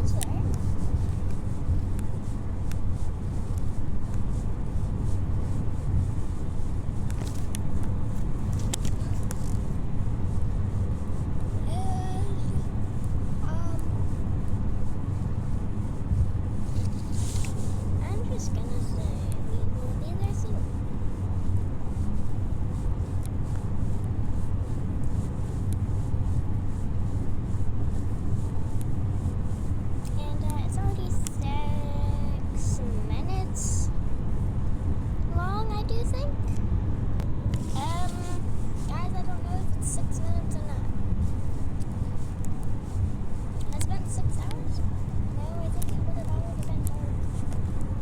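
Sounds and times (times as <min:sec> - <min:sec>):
car interior road noise: 0:00.0 - 0:48.0.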